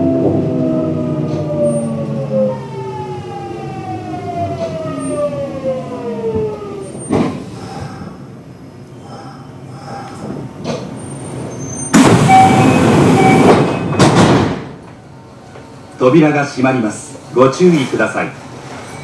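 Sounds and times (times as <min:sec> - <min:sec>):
train running noise: 0:00.0 - 0:19.0
train traction inverter whining: 0:00.0 - 0:19.0.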